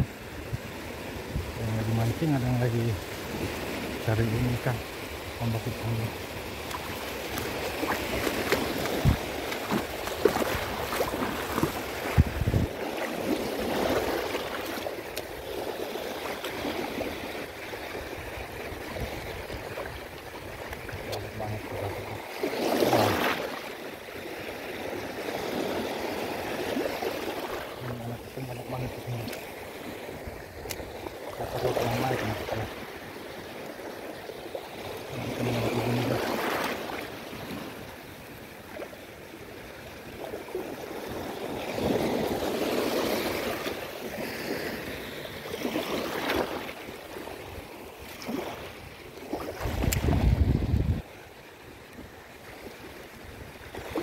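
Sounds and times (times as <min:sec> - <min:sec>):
small waves washing in: 0:00.0 - 0:54.0.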